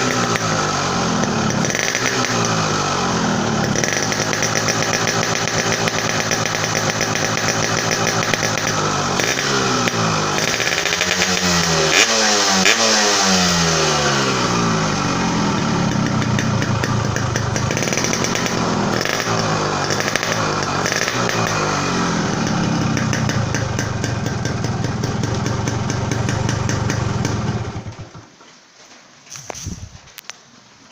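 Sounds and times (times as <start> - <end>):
two-stroke engine idling and revving: 0.0 - 28.3.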